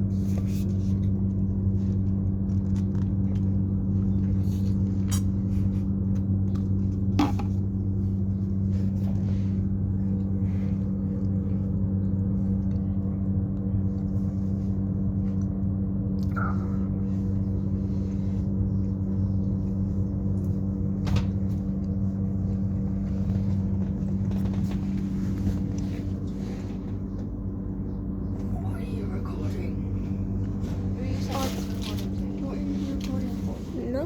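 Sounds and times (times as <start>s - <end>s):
train carriage hum: 0.0s - 34.0s.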